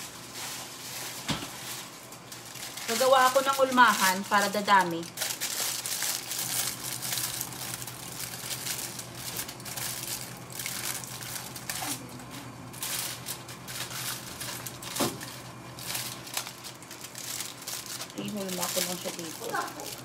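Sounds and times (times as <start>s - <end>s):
aluminium foil crinkling: 0.0s - 20.0s
steady low hum: 0.0s - 20.0s.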